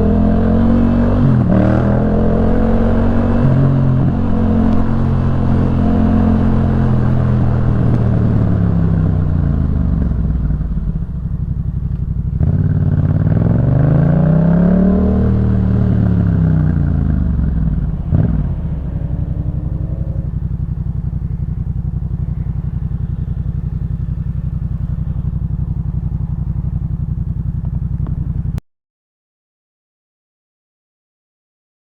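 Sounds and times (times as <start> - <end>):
motorcycle engine revving: 0.0 - 28.6.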